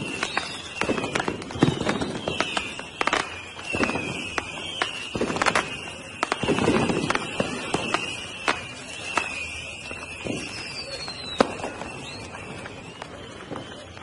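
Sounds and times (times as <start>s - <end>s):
fireworks bangs and crackling: 0.0s - 14.0s
fireworks whistling: 0.0s - 14.0s.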